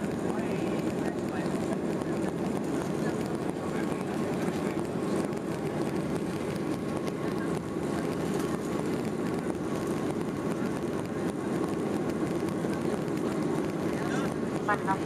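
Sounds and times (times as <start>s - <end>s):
airplane cabin engine roar: 0.0s - 15.0s
rushing airflow: 0.0s - 15.0s.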